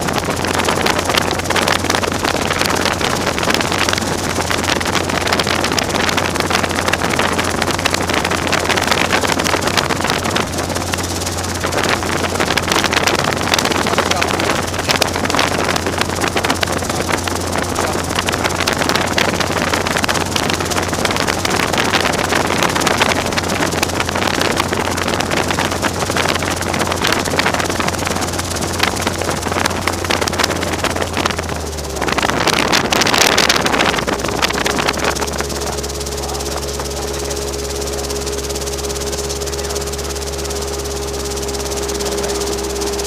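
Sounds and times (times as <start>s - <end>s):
helicopter engine and rotor drone: 0.0s - 43.0s
wind noise on microphone: 0.0s - 43.0s.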